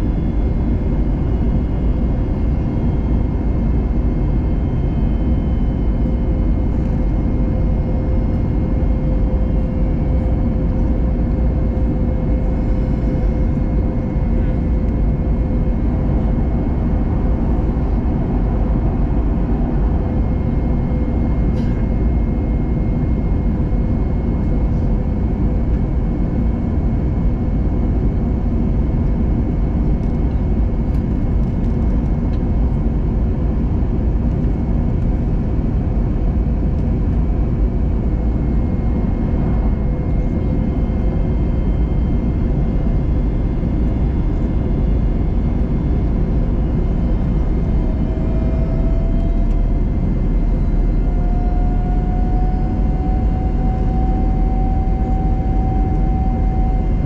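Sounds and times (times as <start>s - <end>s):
airliner cabin roar: 0.0s - 57.0s.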